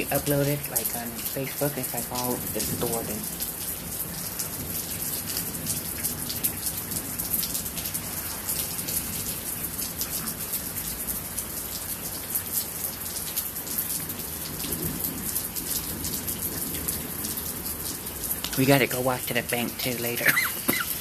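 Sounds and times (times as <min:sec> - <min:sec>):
raindrops ticking on surfaces: 0:00.0 - 0:21.0
steady rain falling: 0:00.0 - 0:21.0.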